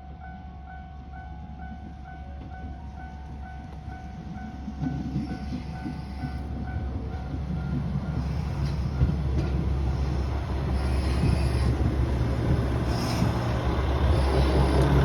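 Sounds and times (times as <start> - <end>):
diesel railcar engine rumble: 0.0 - 15.0.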